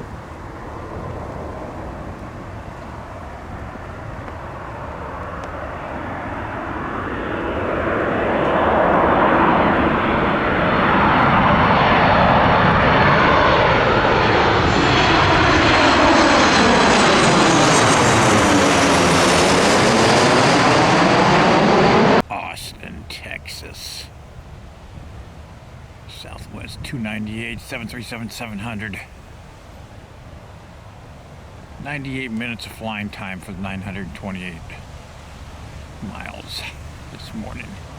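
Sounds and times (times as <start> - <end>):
jet airliner engines passing: 0.0 - 37.9.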